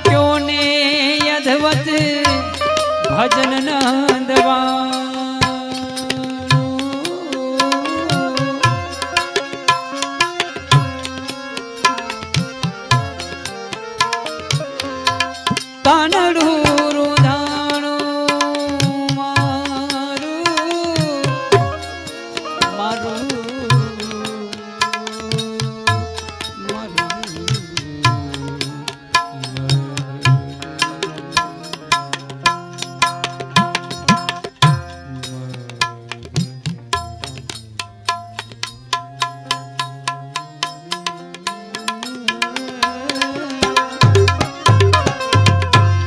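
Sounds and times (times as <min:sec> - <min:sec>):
person singing: 0:00.0 - 0:11.0, 0:15.8 - 0:34.1, 0:34.8 - 0:46.0
harmonium notes: 0:00.0 - 0:46.0
tabla strokes: 0:00.0 - 0:46.0.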